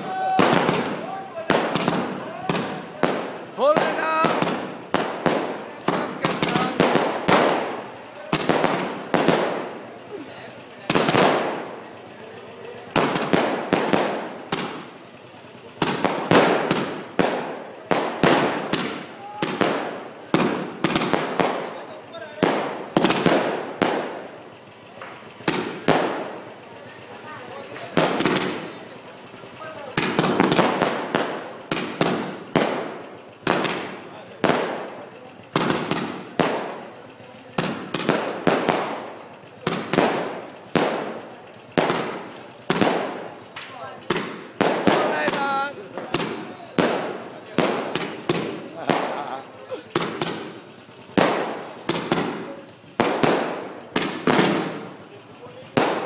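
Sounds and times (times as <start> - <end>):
fireworks bursting with echoes: 0.0 - 56.0.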